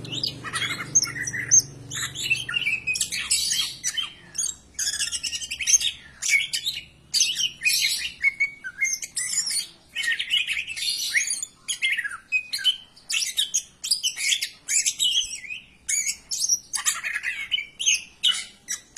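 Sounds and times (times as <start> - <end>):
bird singing chirps and trills: 0.0 - 18.9.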